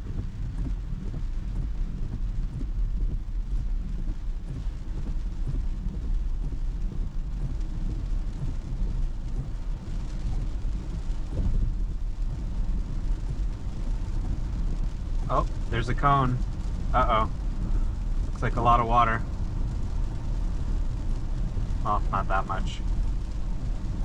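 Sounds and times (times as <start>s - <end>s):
tyres rumbling on wet pavement: 0.0s - 24.0s.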